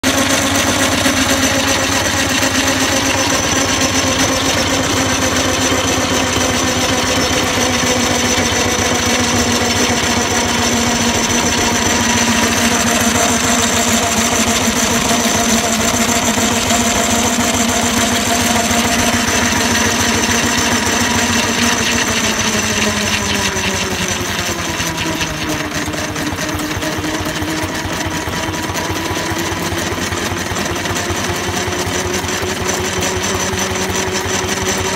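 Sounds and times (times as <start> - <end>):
steam engine mechanical clatter: 0.0 - 34.9.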